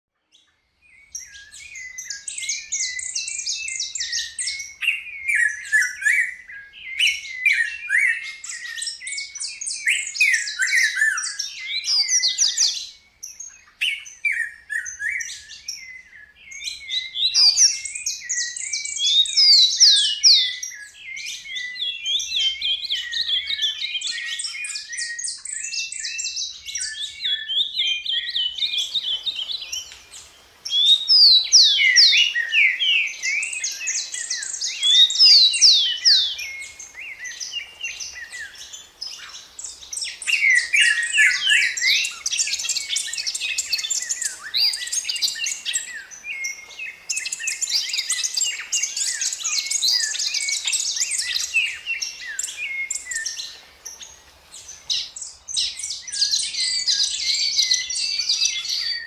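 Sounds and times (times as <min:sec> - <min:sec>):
songbirds chorus: 0:00.2 - 0:59.0.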